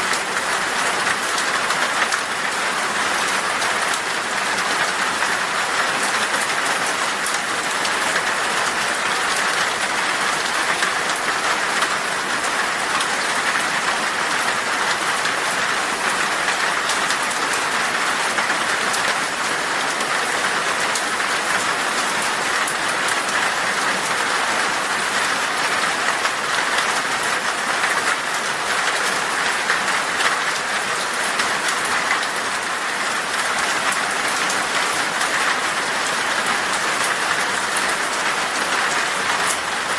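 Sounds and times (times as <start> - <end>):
heavy rain on glass: 0.0 - 39.9.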